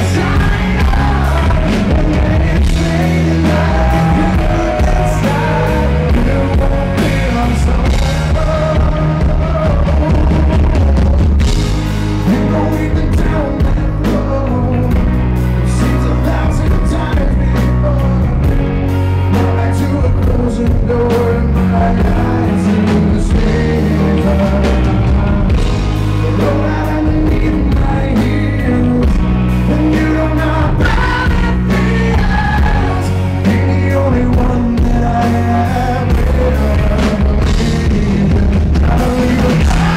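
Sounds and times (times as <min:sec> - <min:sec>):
bass guitar: 0:00.0 - 0:39.9
drums: 0:00.0 - 0:39.9
electric guitar: 0:00.0 - 0:39.9
male singer: 0:00.0 - 0:39.9.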